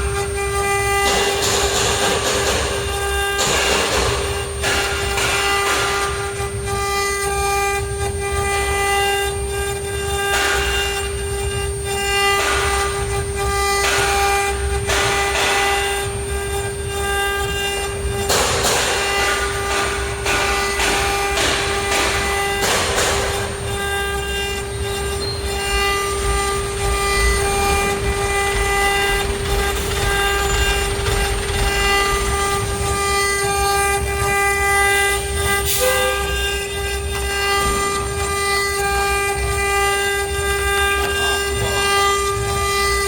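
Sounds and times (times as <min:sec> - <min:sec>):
router spindle whine: 0:00.0 - 0:43.0.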